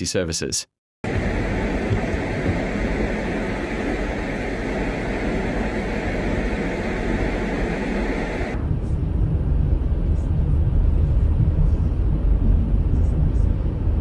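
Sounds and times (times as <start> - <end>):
vehicle driving on road: 1.1 - 12.8.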